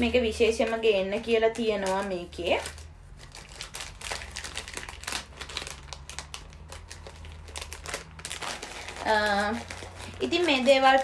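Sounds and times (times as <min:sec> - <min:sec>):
plastic packaging crinkling: 0:00.5 - 0:11.0.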